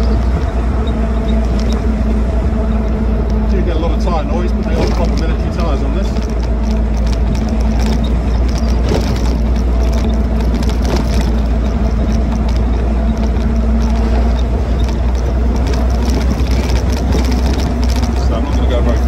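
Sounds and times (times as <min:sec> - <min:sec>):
jeep engine running: 0:00.0 - 0:19.0
light body rattles: 0:00.0 - 0:19.0
wind rumble on microphone: 0:00.0 - 0:19.0.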